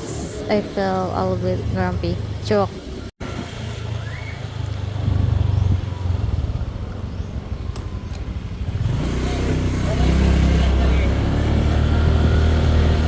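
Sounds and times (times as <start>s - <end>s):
motor scooter rumbling: 0.0s - 13.0s.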